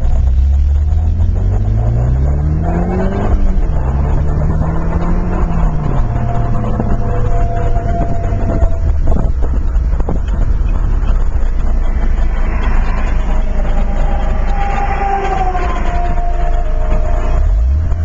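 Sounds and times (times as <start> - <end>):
car engine accelerating hard: 0.0 - 18.0
road and wind noise: 0.0 - 18.0
faint wavering whine: 3.0 - 17.4.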